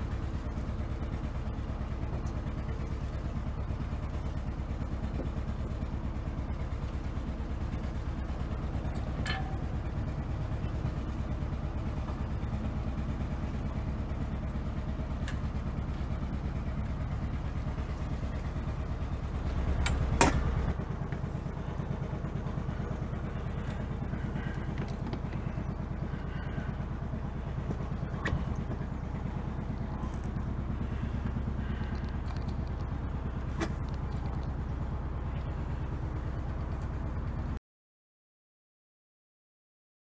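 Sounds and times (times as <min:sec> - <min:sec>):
boat engine idling: 0:00.0 - 0:37.6.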